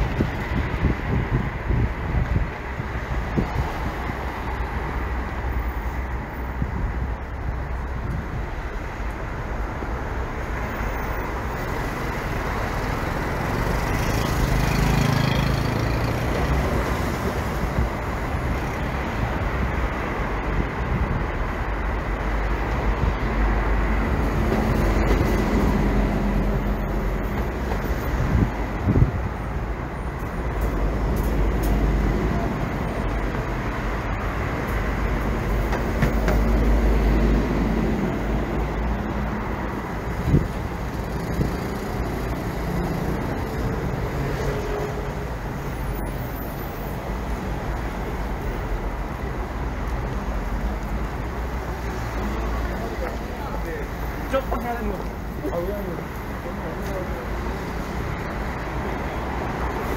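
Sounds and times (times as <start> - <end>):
traffic road noise: 0.0 - 59.9.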